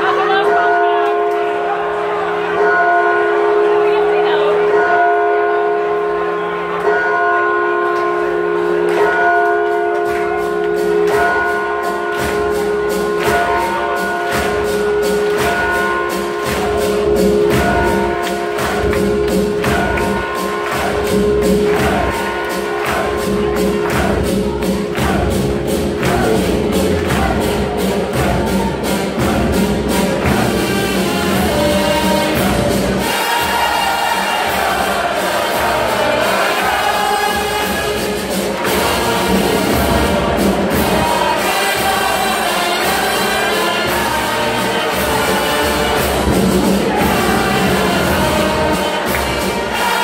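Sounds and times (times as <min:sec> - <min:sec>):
crowd clapping in time: 0:00.0 - 0:02.6, 0:05.7 - 0:50.0
music with long held chords: 0:00.0 - 0:50.0.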